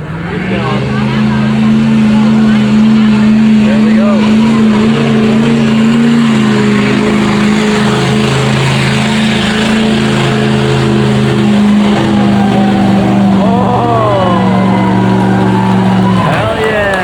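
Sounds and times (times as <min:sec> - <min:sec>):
truck engine running hard: 0:00.0 - 0:17.0.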